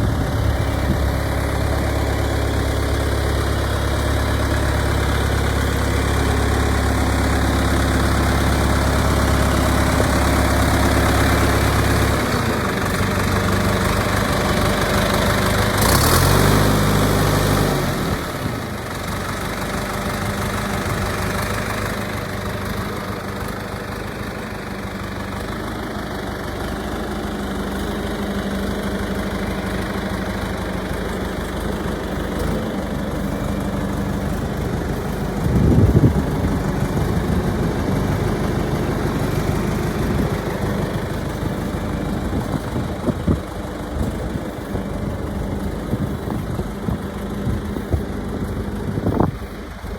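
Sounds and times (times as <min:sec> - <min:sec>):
backhoe engine idling: 0:00.0 - 0:49.9.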